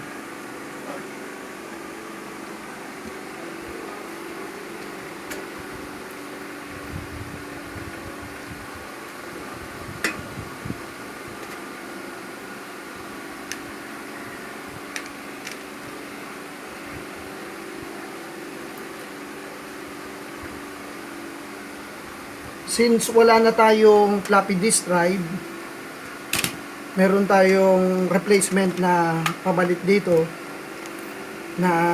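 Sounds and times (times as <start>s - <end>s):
fan hum: 0.0s - 31.9s.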